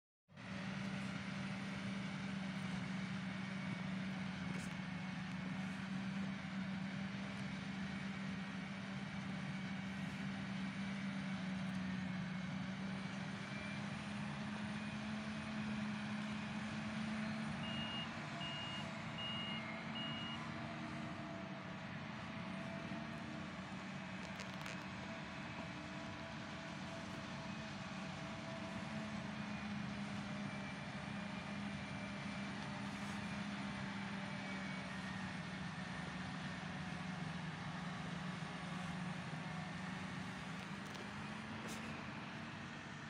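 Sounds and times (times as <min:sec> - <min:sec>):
harvester engine drone: 0:00.3 - 0:43.0.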